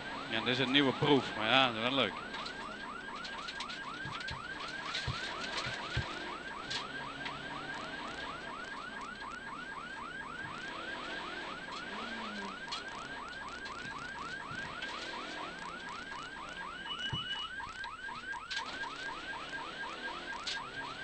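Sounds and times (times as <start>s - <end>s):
electronic whooping alarm: 0.0s - 21.0s
faint car engine and road noise: 0.0s - 21.0s.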